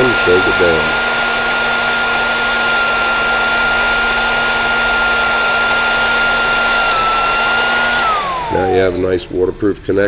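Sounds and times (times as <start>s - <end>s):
heat gun fan whining: 0.0s - 9.6s.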